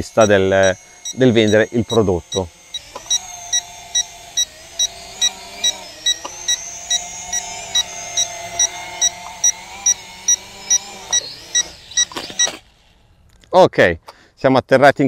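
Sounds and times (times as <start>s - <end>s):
steady electronic beeping: 0.0s - 12.7s
drone whining: 0.0s - 13.4s.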